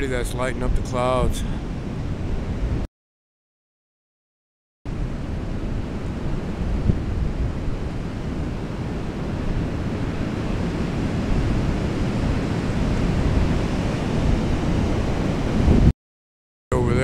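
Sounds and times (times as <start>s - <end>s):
ocean surf on beach: 0.0s - 2.8s, 4.9s - 15.9s
wind buffeting microphone: 0.0s - 2.8s, 4.9s - 15.9s.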